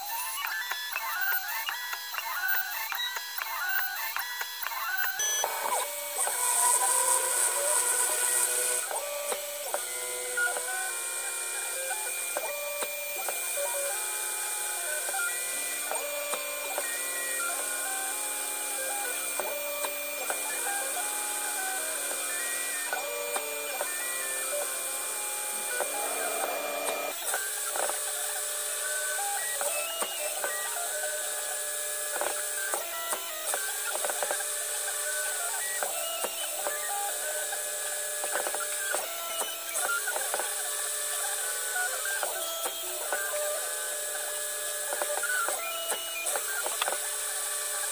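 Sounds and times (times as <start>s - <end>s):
drive motors whining in jumping tones: 0.0s - 47.9s
mill spindle high whine: 0.0s - 47.9s.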